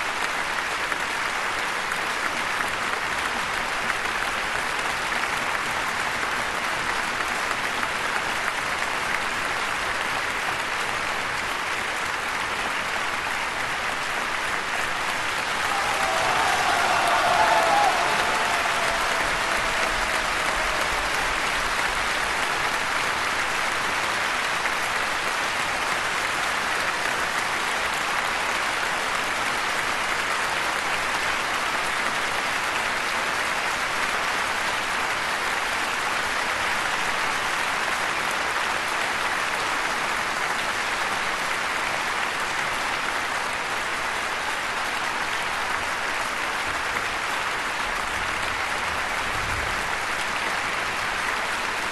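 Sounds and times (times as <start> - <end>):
crowd applauding: 0.0 - 51.9.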